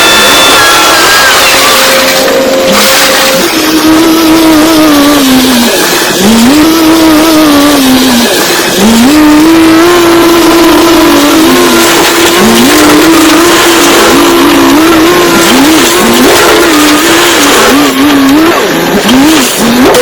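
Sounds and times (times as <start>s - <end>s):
diesel engine revving: 0.0s - 20.0s
constant rattling: 0.6s - 20.0s.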